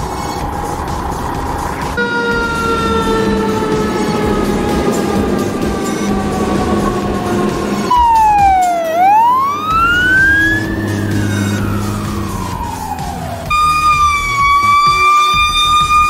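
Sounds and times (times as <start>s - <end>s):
low engine rumble: 0.0s - 16.0s
siren steady high tone: 0.0s - 16.0s
siren wailing: 1.4s - 16.0s.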